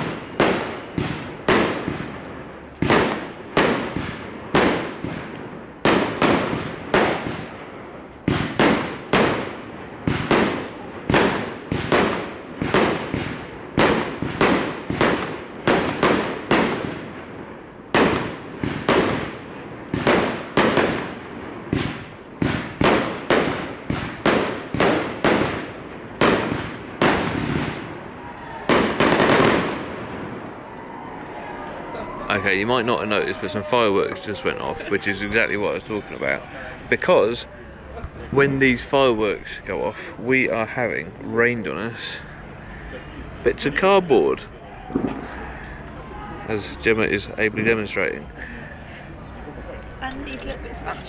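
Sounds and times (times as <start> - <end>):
fireworks bangs: 0.0 - 48.2.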